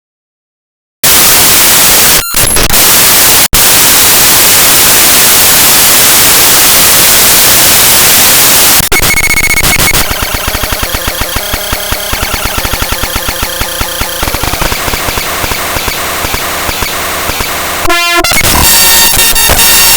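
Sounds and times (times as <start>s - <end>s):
buzzy repeating tones: 1.0s - 19.9s
harsh static: 1.0s - 19.9s.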